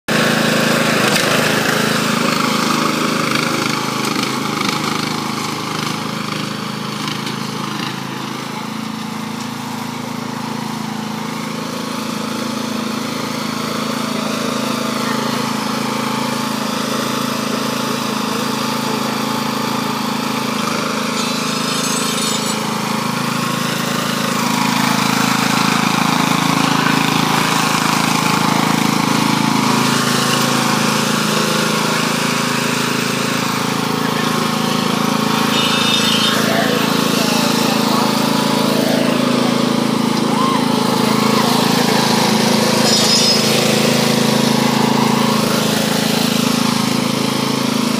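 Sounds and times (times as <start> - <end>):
lawn tractor engine running: 0.1 - 47.9.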